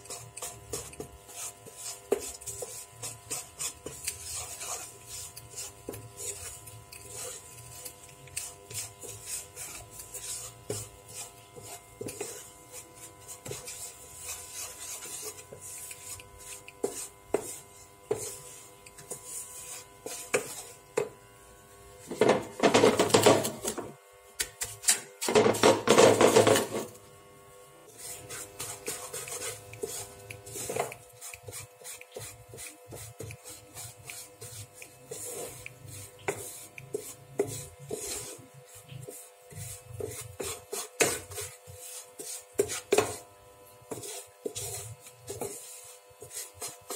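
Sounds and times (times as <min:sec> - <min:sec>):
spatula scraping frying pan: 0:00.0 - 0:21.2, 0:22.0 - 0:23.9, 0:24.7 - 0:27.0, 0:27.9 - 0:46.9.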